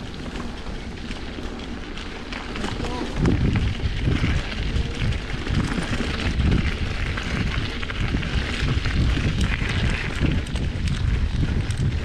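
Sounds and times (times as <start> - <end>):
bike tyres crunching on gravel: 0.0 - 12.0
wind buffeting microphone: 0.0 - 12.0.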